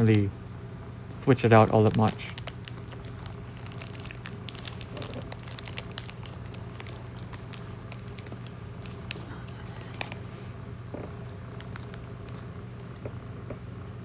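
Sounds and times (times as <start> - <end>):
trading cards clicking and rustling: 0.0 - 0.3, 1.1 - 10.5, 11.3 - 13.0
steady low hum: 0.0 - 14.0.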